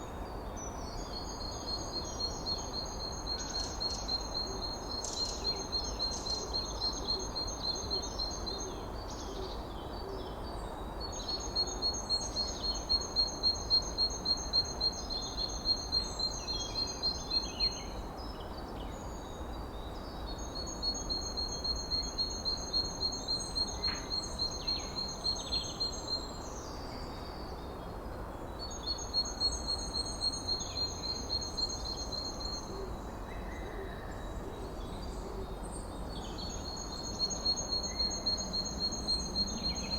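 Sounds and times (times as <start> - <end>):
forest background noise: 0.0 - 39.9.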